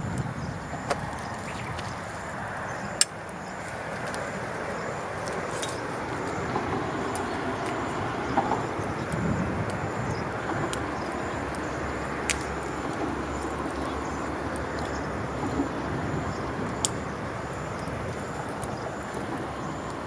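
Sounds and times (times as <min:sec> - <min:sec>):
steady outdoor hiss: 0:00.0 - 0:20.0
wood fire crackling: 0:00.0 - 0:20.0.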